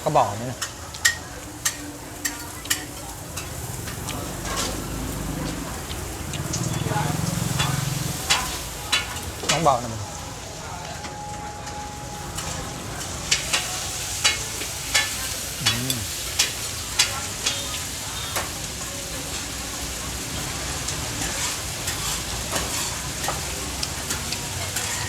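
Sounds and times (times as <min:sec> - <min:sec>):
batter sizzling in oil: 0:00.0 - 0:25.0.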